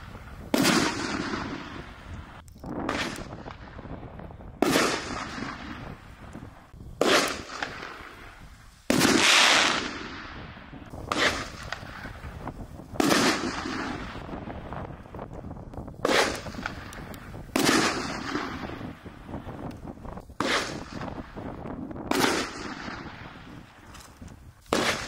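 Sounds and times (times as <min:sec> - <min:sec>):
firework shells firing with echo: 0:00.0 - 0:23.9, 0:24.7 - 0:25.0.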